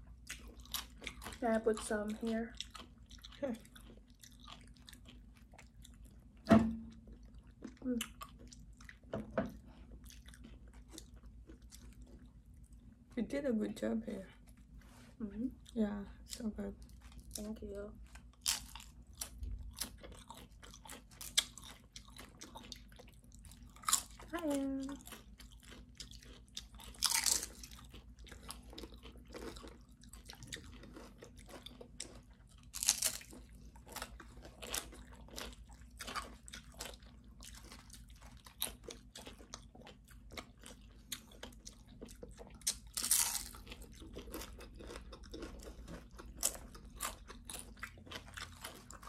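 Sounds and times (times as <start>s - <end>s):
crunchy chips being chewed: 0.0s - 6.4s, 7.0s - 13.0s, 16.3s - 49.0s.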